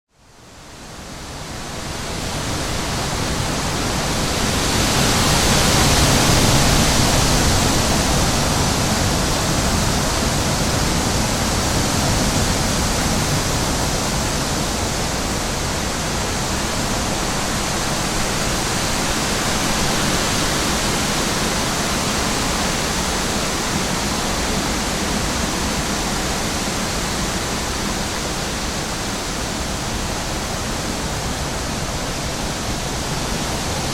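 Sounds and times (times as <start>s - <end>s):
wind blowing: 1.0s - 33.9s.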